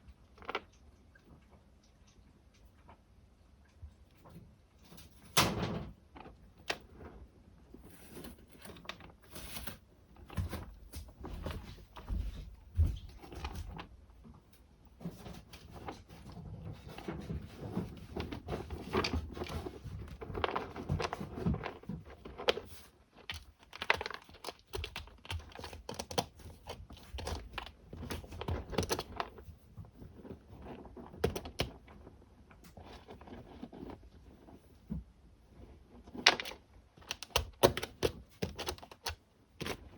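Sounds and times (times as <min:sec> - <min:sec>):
kittens scratching in cat litter: 0:05.9 - 0:39.9.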